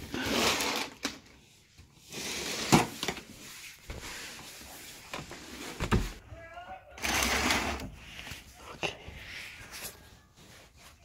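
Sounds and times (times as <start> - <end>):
rustling and shuffling: 0.0 - 11.0.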